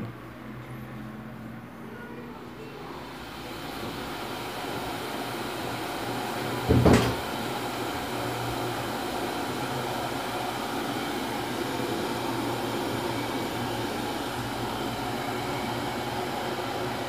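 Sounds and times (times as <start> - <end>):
electric kettle heating water: 2.7 - 17.0.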